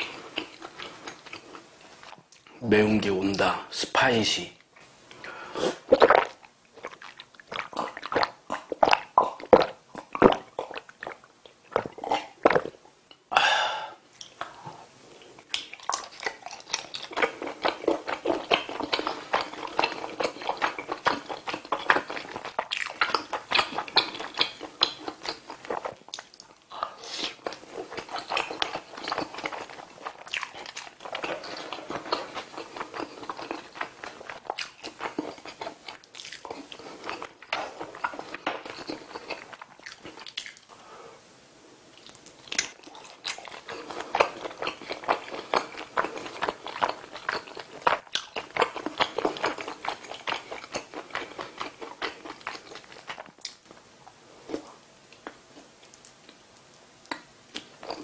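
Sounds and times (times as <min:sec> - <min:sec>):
rapid wet chewing: 0:00.0 - 0:02.5, 0:05.1 - 0:12.8, 0:15.2 - 0:40.7, 0:42.0 - 0:53.7.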